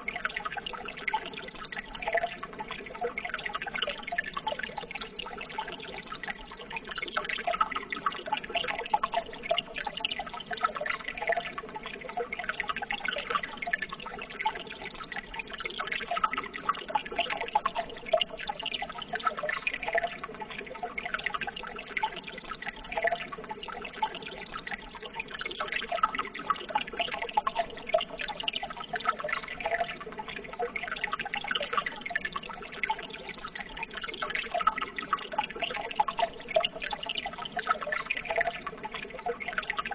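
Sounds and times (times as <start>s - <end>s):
flowing water trickling: 0.0s - 39.9s.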